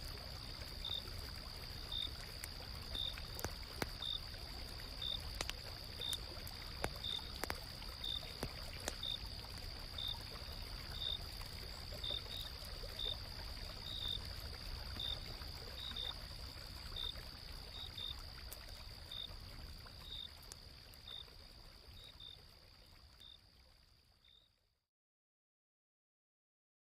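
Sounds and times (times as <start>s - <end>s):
campfire crackling: 0.0s - 23.7s
stream flowing: 0.0s - 24.2s
insect chirping: 0.0s - 24.6s.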